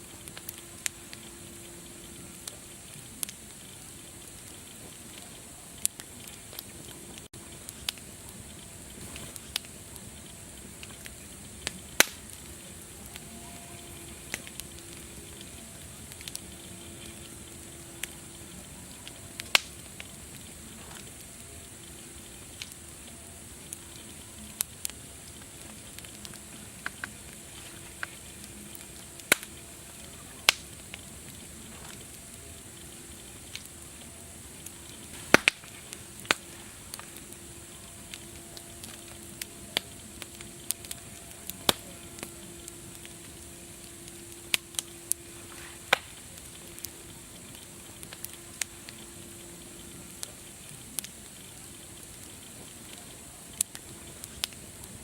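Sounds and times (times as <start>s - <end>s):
soft hiss: 0.0s - 55.0s
wood fire crackling: 0.0s - 55.0s.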